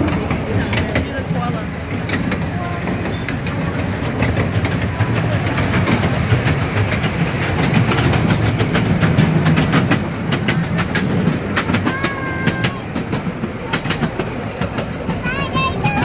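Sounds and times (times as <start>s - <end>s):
train wheels clicking over rails: 0.0s - 16.0s.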